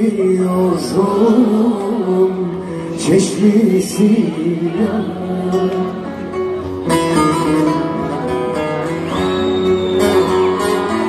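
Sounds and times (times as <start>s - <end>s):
acoustic guitar strummed and plucked: 0.0s - 11.0s
live band playing: 0.0s - 11.0s.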